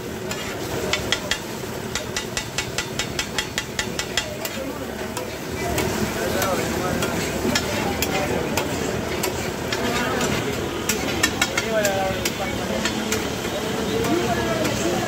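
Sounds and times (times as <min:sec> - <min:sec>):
frying sizzle: 0:00.0 - 0:15.0
metal spatula scraping a griddle: 0:00.2 - 0:14.8.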